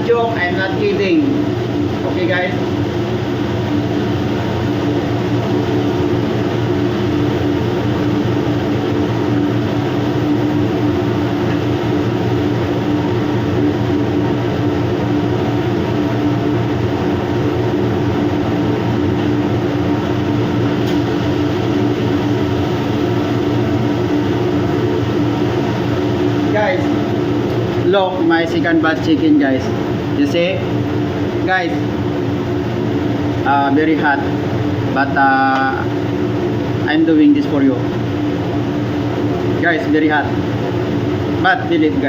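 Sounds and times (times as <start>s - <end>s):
ship machinery drone: 0.0s - 42.0s.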